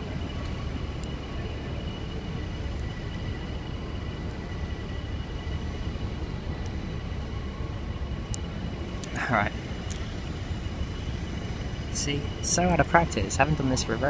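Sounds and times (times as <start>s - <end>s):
faint high whine: 0.0s - 14.0s
traffic rumble: 0.0s - 14.0s
trains rumbling: 0.0s - 14.0s.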